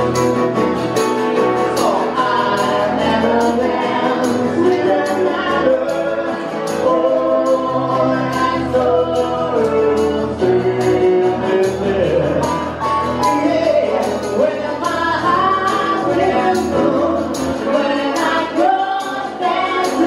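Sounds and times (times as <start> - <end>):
percussion beat: 0.0 - 20.0
voices singing together: 1.6 - 20.0.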